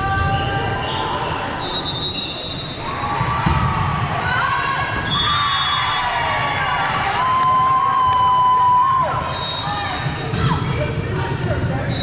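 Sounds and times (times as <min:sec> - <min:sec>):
murmur of spectators: 0:00.0 - 0:12.0.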